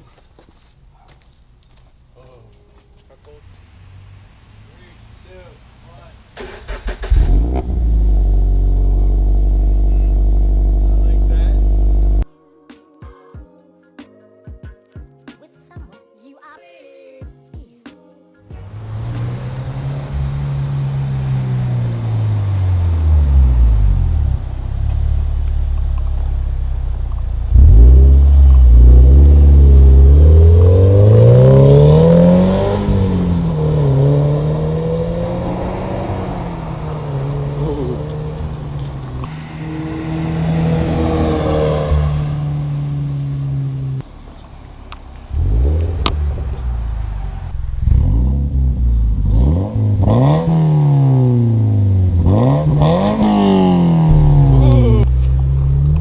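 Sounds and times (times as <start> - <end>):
car engine revving over idle: 3.2 - 12.2, 18.6 - 56.0.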